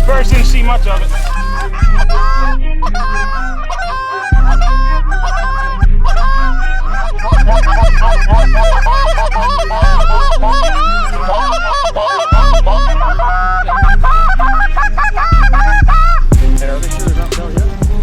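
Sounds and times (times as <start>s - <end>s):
music with deep bass and kick: 0.0s - 11.8s, 12.4s - 18.0s
geese honking: 0.0s - 18.0s.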